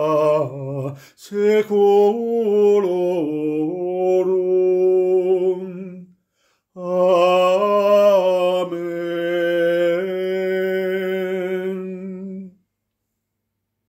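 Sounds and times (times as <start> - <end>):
person singing chant unaccompanied: 0.0 - 6.2, 6.8 - 12.6.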